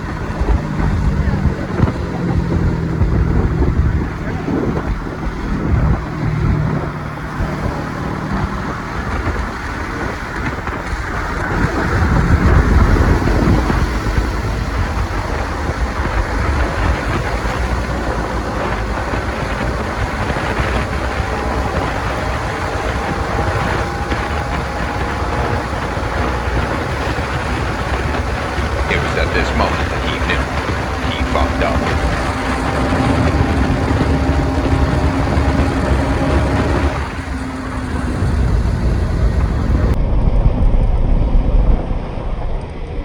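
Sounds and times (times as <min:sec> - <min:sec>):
motorcycle engine: 0:00.0 - 0:40.0
road noise: 0:00.0 - 0:43.0
wind on microphone: 0:00.0 - 0:43.0.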